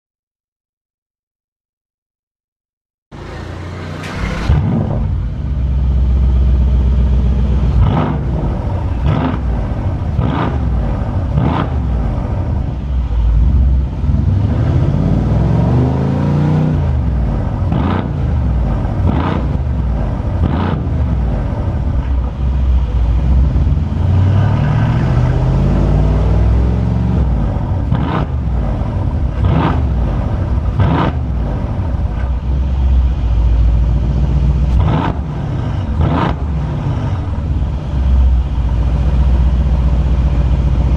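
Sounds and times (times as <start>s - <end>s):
exhaust cracks: 3.1s - 15.0s, 16.7s - 40.9s
engine revving: 3.1s - 40.9s.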